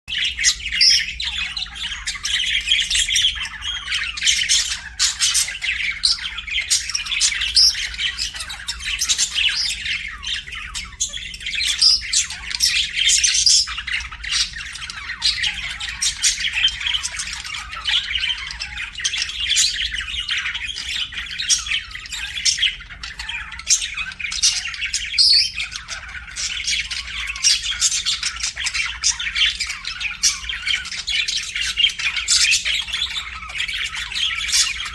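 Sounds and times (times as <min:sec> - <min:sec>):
budgerigars chirping and squawking: 0:00.1 - 0:34.9.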